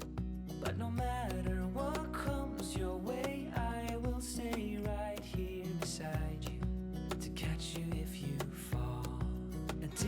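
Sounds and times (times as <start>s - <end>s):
slow acoustic guitar song: 0.0s - 10.0s.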